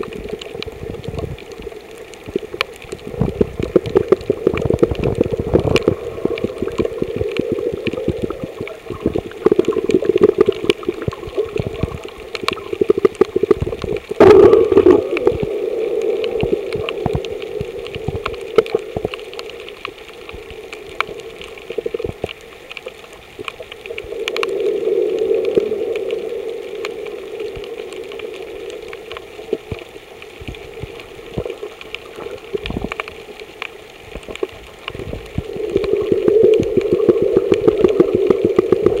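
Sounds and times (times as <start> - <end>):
crackle of small clicks: 0.0 - 39.0
muffled underwater gurgling water: 0.0 - 39.0.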